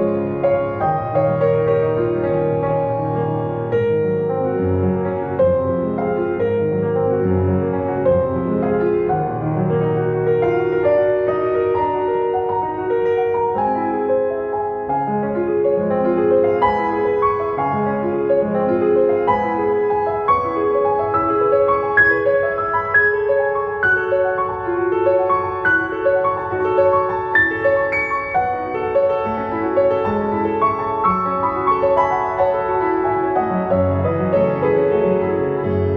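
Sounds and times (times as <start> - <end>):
gentle piano music: 0.0 - 35.9.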